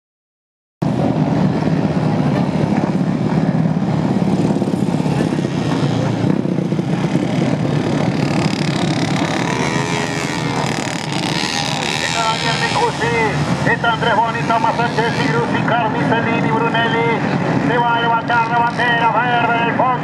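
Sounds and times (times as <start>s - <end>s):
engines revving: 0.8s - 20.0s
racing kart engines running: 0.8s - 20.0s.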